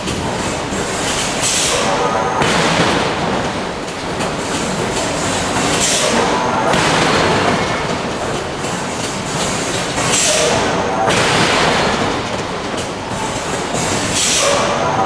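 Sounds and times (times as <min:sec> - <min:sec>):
forging hammers machinery noise: 0:00.0 - 0:15.0.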